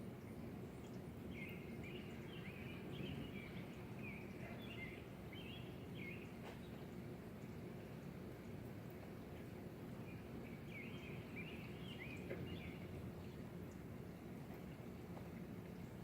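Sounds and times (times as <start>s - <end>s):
low outdoor background noise: 0.0s - 16.0s
songbird singing: 0.1s - 8.6s, 9.3s - 16.0s.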